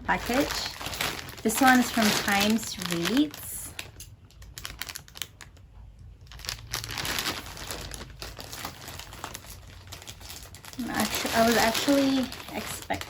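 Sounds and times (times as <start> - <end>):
package wrapping crinkling: 0.0 - 13.0.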